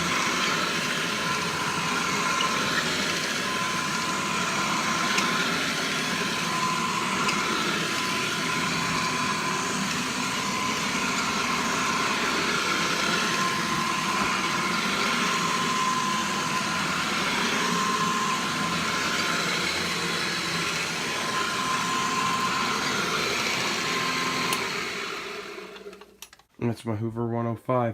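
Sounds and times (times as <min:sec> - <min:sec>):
upright vacuum cleaner running: 0:00.0 - 0:26.2.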